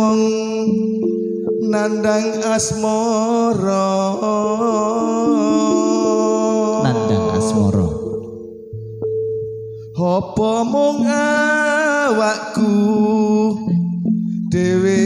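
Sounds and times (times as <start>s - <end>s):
man singing through microphone: 0.0s - 8.4s, 10.0s - 15.0s
sustained keyboard notes: 0.0s - 15.0s.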